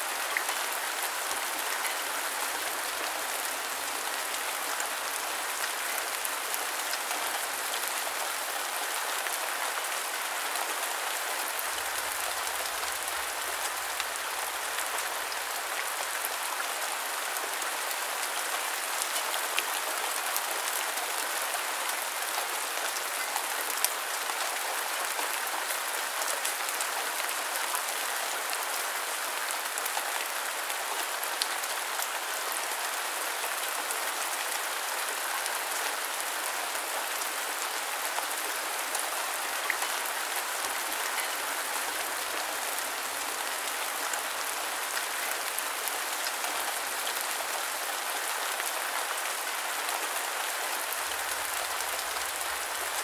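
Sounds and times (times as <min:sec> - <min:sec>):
rain pattering: 0:00.0 - 0:34.9, 0:35.5 - 0:53.0.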